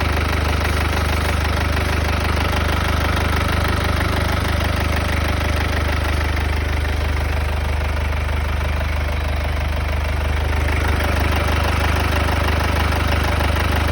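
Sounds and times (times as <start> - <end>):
diesel engine idling with clatter: 0.0 - 13.9.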